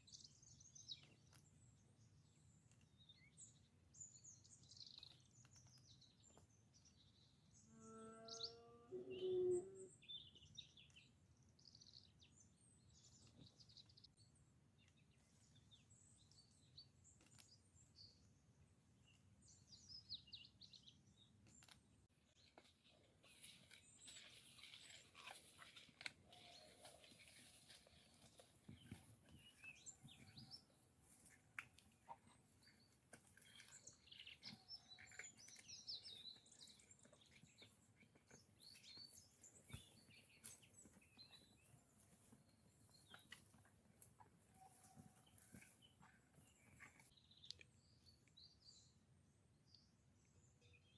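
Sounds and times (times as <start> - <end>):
faint birds chirping: 0.0 - 50.9.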